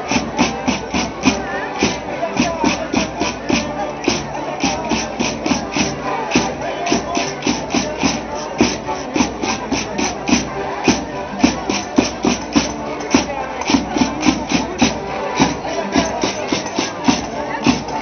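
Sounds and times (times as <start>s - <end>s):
drum thuds: 0.0s - 18.0s.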